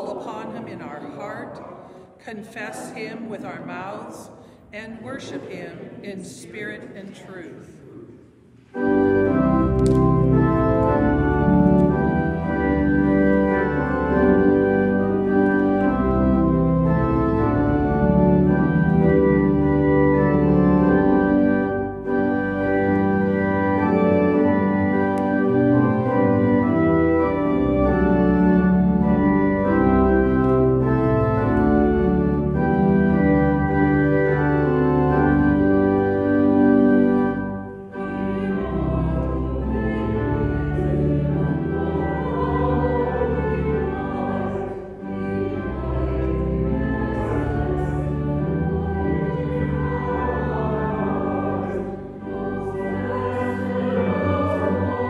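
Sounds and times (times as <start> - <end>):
church organ playing a hymn: 0.0 - 1.9, 8.6 - 55.0.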